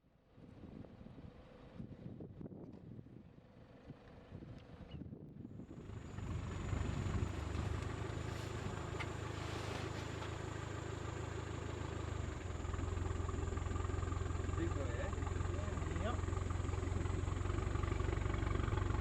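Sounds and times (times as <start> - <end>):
vehicle engine running at low revs: 0.3 - 19.0.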